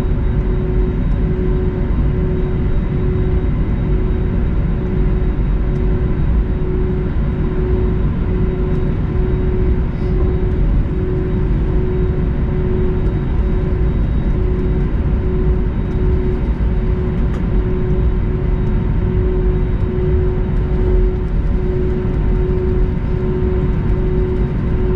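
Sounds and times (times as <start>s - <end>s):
aircraft cabin low rumble: 0.0s - 24.9s.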